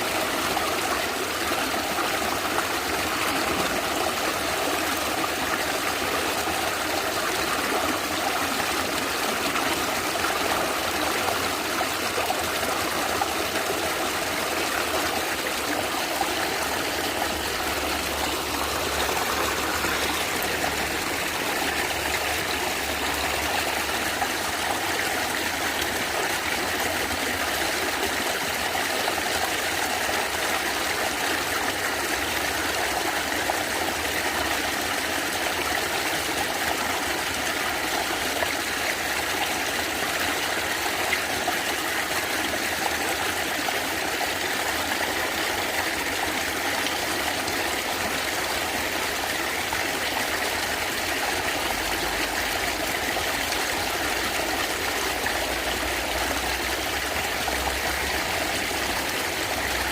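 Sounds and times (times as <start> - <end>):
stream gurgling over rocks: 0.0 - 59.9.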